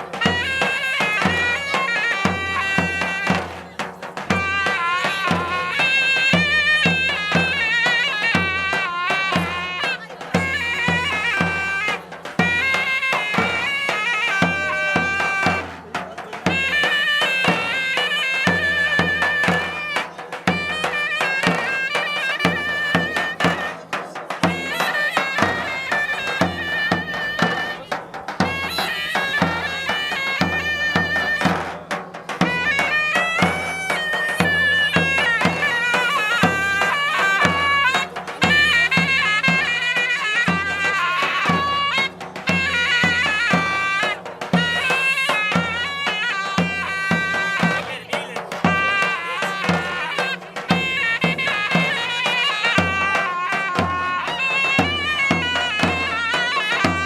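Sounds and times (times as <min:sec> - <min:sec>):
low drum beats: 0:00.0 - 0:57.0
reed wind instrument melody: 0:00.0 - 0:57.0.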